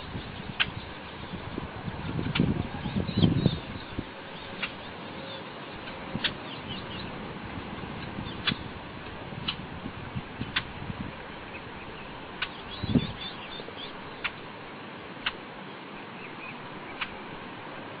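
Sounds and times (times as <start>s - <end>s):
birds chirping: 0.0s - 7.2s, 7.9s - 8.8s, 10.4s - 17.3s
steady background hiss: 0.0s - 18.0s.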